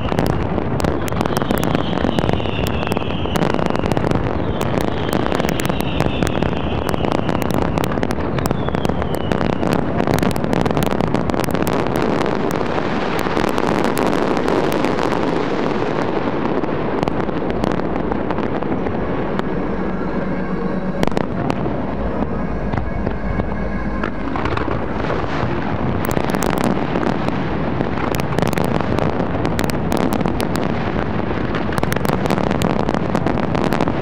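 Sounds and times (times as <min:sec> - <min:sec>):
falling firework whistles: 0:00.0 - 0:27.4
fireworks bangs and crackling: 0:00.0 - 0:34.0.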